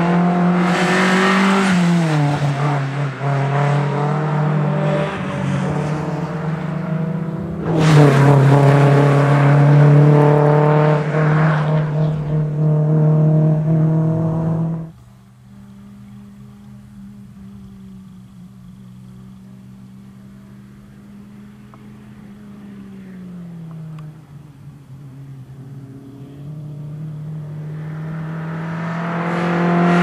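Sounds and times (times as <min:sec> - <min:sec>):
rally car engine passing: 0:00.0 - 0:30.0.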